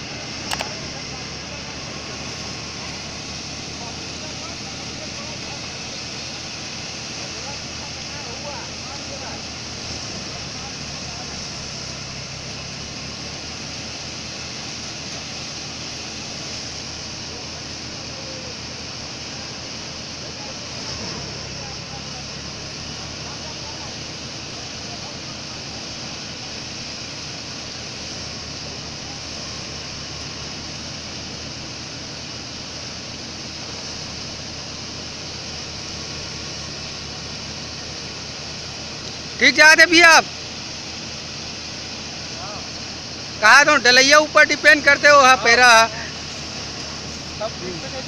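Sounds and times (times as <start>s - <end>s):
thresher machine drone: 0.0s - 48.0s.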